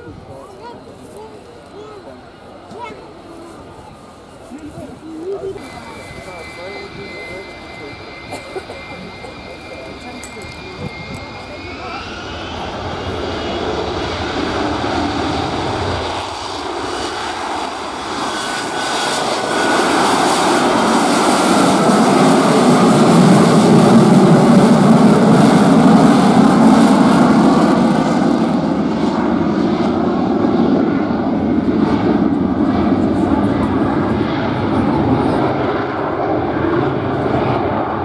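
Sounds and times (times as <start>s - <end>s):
jet engine roaring: 0.0s - 38.0s.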